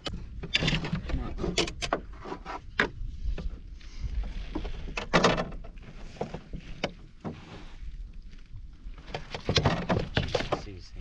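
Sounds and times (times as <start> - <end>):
knocks and clatter in boat: 0.0 - 7.8, 8.9 - 11.0.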